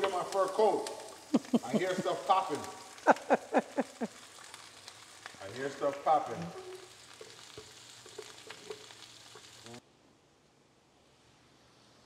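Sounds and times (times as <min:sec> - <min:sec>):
vegetables sizzling in oil: 0:00.0 - 0:09.8.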